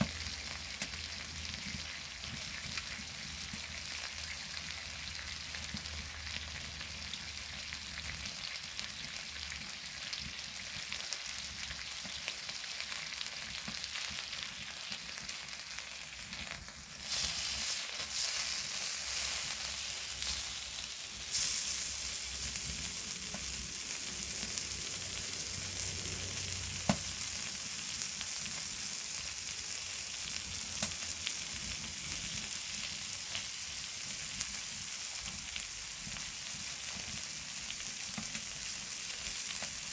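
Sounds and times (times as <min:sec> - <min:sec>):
meat sizzling on hot stone: 0:00.0 - 0:39.9.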